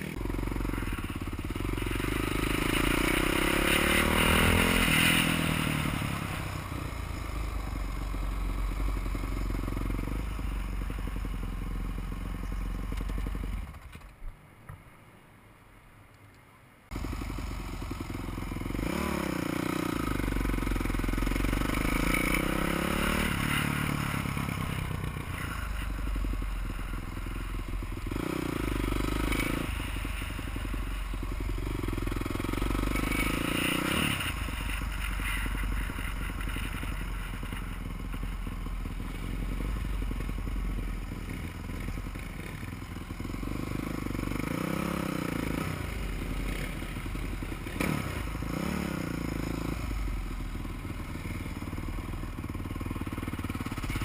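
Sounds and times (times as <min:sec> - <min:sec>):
motorcycle engine revving: 0:00.0 - 0:13.9, 0:16.9 - 0:54.0.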